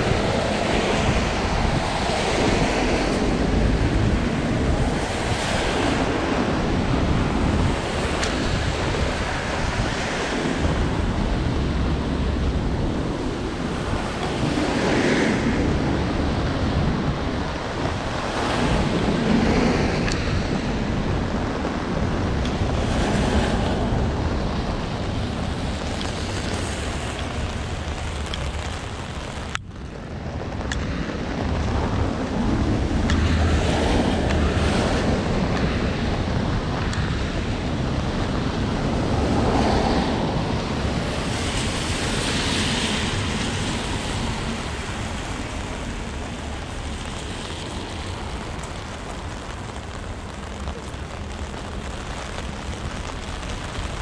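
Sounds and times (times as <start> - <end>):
rain buffeting microphone: 0.0 - 54.0
wind gusts on microphone: 0.0 - 54.0.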